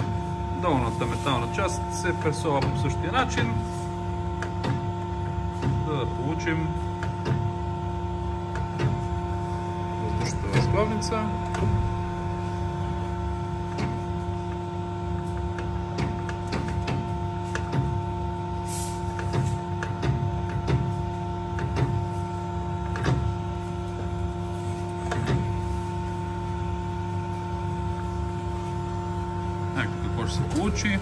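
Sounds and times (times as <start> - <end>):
crimping press motor hum: 0.0 - 31.0.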